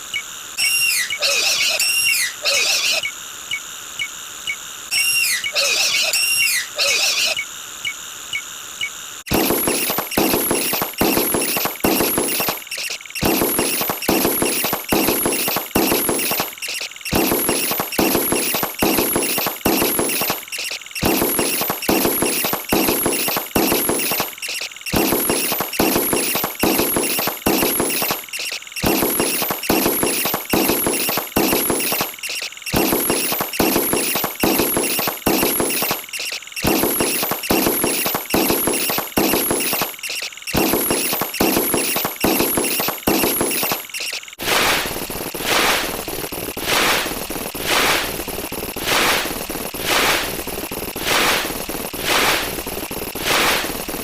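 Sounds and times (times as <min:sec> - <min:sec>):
rapid clicks: 0:07.8 - 0:54.0.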